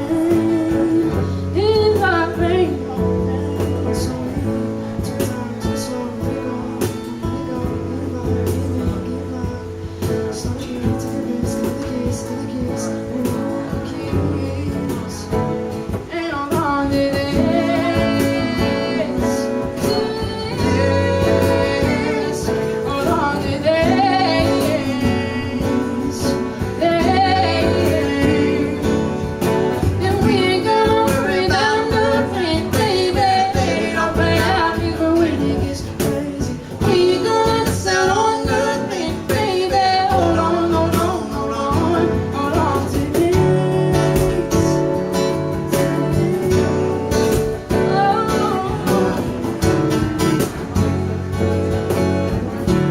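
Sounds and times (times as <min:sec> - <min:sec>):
person singing: 0:00.0 - 0:50.6
cajon beat: 0:00.0 - 0:52.9
strummed acoustic guitar: 0:00.0 - 0:52.9.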